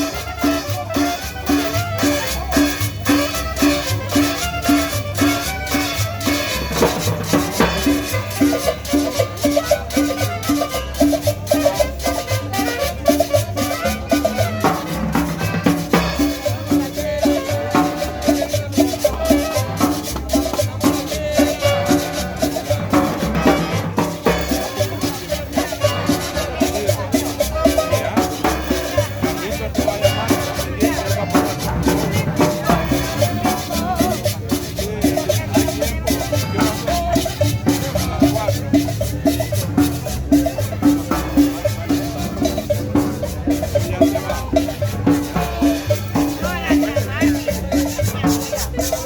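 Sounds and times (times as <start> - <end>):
latin dance music: 0.0 - 49.0
maracas: 0.0 - 49.0.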